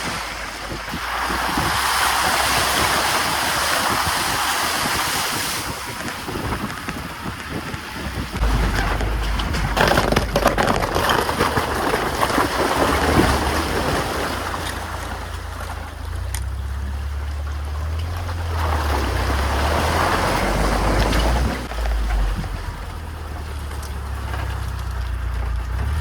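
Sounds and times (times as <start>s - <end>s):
off-road vehicle engine drone: 0.0s - 26.0s
tyres crackling on rough track: 0.0s - 26.0s.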